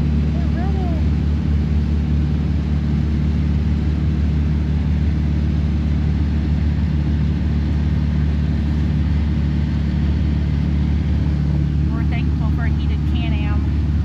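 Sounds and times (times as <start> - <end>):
utility vehicle engine droning: 0.0 - 14.0.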